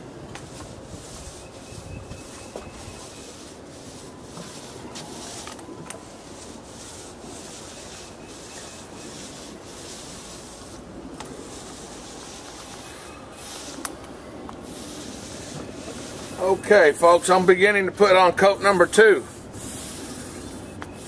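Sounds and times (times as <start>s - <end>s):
paint roller on wooden boards: 0.3s - 21.0s.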